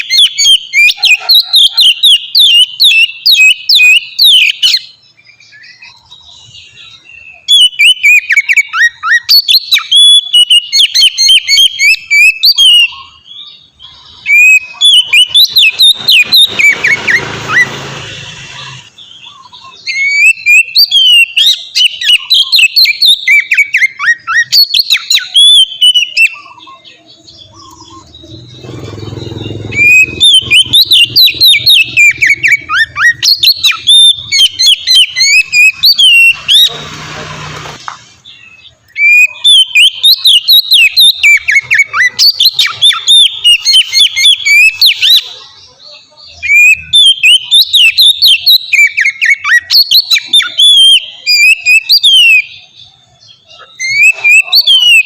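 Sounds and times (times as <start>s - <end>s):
bird singing whistled notes: 0.0s - 36.8s, 38.0s - 55.0s.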